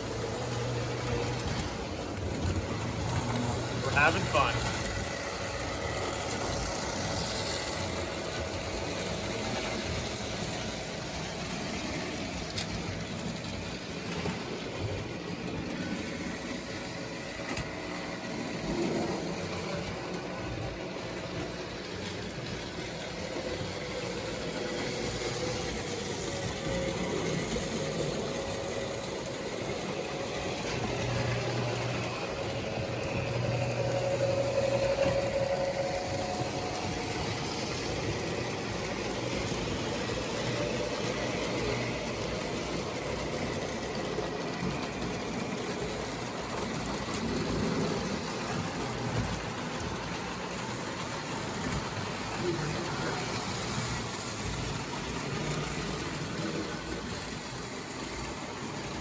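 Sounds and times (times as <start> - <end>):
model train motor hum: 0.0 - 59.0
wheels rattling on track: 0.0 - 59.0.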